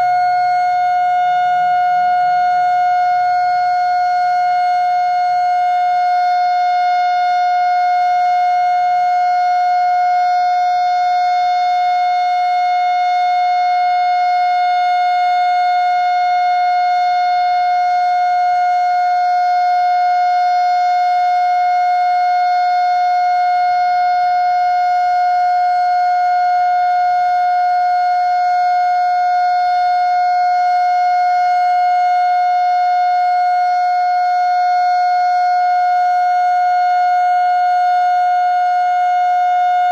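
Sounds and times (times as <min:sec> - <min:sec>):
siren steady tone: 0:00.0 - 0:39.9.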